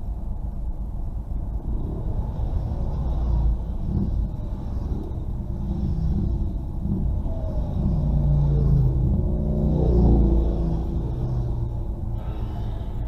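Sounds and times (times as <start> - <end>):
low rumble of traffic: 0.0 - 13.0
motorcycles passing by: 1.8 - 13.0.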